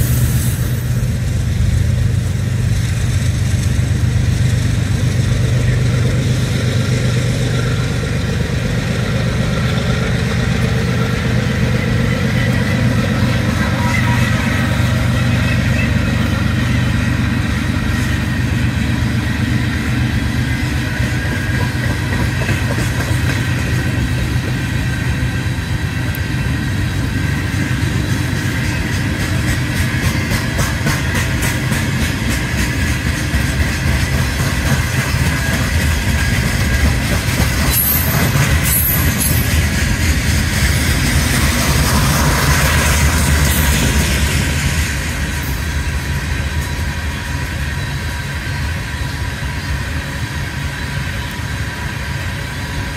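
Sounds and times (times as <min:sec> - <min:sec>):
train wheels rumbling on rail: 0:00.0 - 0:52.9
wheels clicking over rail joints: 0:01.4 - 0:24.6, 0:27.2 - 0:47.1.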